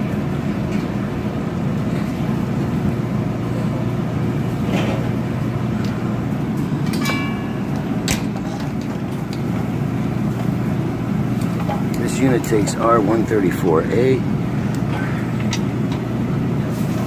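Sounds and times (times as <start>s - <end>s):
refrigerator unit humming: 0.0s - 17.0s.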